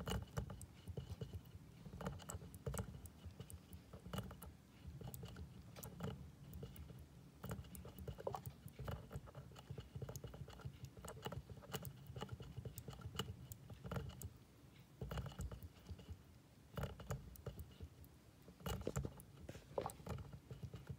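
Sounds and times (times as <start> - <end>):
hamster licking water bottle spout: 0.0 - 20.9.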